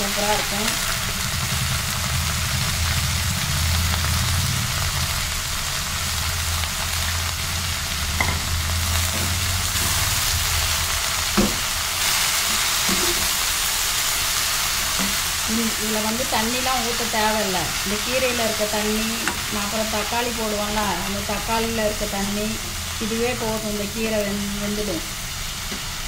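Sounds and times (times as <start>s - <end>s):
leaves sizzling in hot oil: 0.0s - 26.0s.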